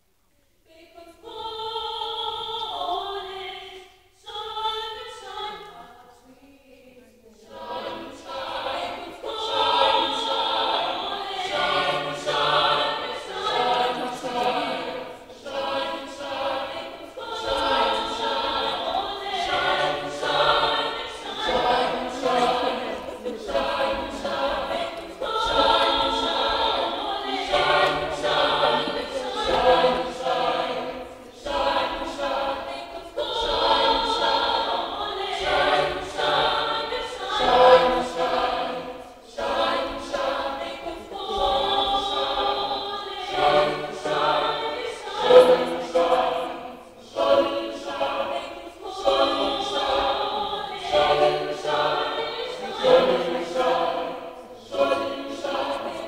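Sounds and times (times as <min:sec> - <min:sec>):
choir singing unaccompanied: 0:00.6 - 0:56.0.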